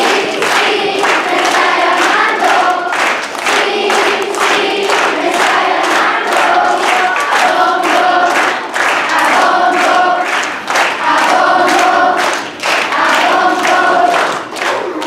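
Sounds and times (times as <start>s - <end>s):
children's choir singing: 0.0s - 15.0s
rhythmic hand clapping: 0.0s - 15.0s.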